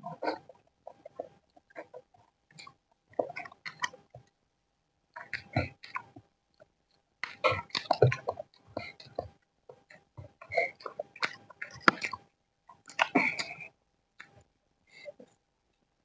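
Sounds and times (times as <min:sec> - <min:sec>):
chewing with smacking mouth sounds: 0:00.1 - 0:04.3, 0:05.2 - 0:14.4.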